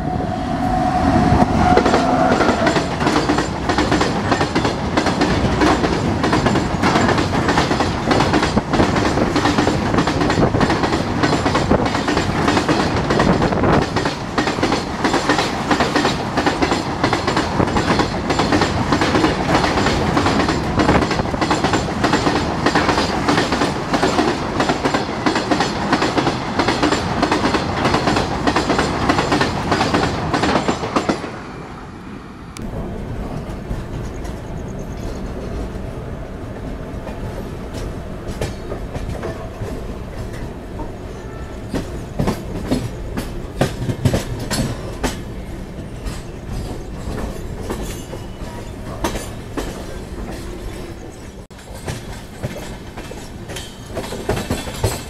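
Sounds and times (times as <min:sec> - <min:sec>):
freight train wheels clattering: 0:01.4 - 0:31.4, 0:37.0 - 0:55.0.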